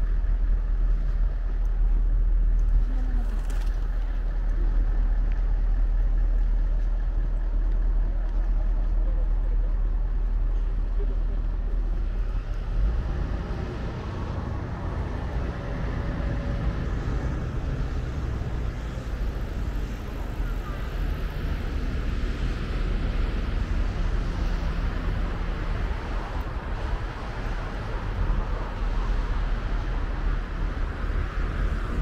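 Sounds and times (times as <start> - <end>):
cars passing: 0.0 - 32.0.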